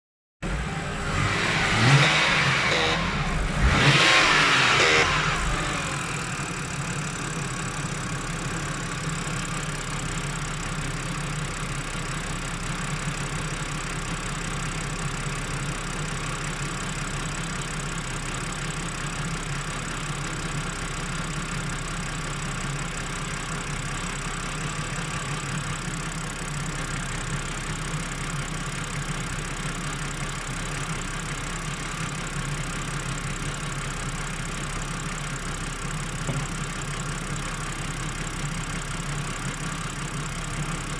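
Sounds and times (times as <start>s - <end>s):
car engine revving and idling: 0.4s - 40.9s.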